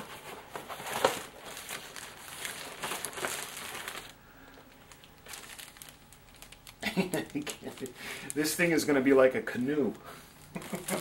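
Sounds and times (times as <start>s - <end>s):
plastic bag crinkling: 0.0s - 9.0s, 9.9s - 11.0s.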